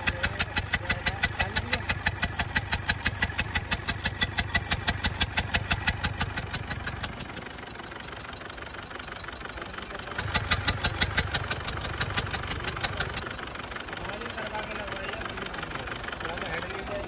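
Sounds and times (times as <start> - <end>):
engine idling with sharp ticking: 0.0 - 17.0.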